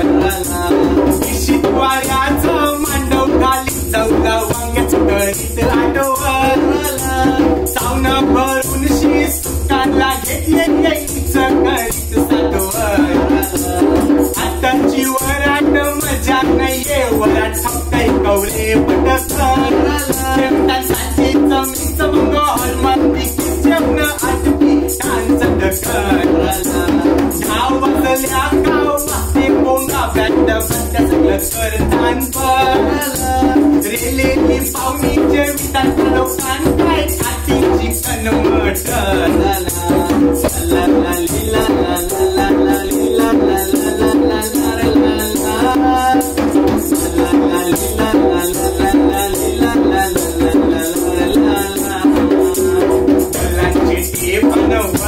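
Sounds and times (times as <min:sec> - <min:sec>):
hand drums: 0:00.0 - 0:55.0
man singing: 0:00.0 - 0:55.0
shaker beat: 0:00.0 - 0:55.0.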